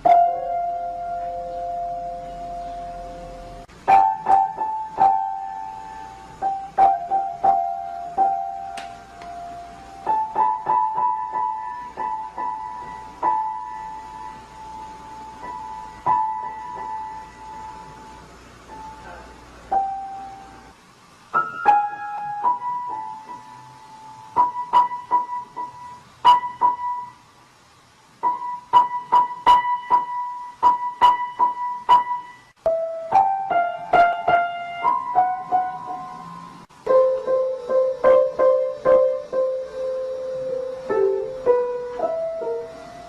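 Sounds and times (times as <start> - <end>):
piano notes: 0.0 - 27.2, 28.2 - 43.0.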